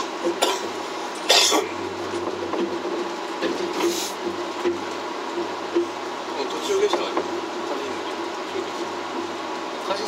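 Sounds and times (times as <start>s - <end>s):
cable car running hum: 0.0s - 10.0s.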